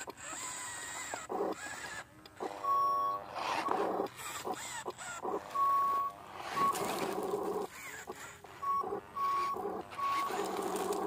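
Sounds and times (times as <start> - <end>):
toy truck motor noise: 0.0 - 11.0
electronic reversing beeps: 1.4 - 11.0.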